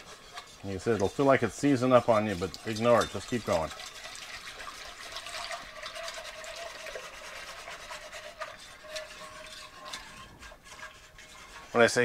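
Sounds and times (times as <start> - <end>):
milk pouring into pot: 0.0 - 12.0.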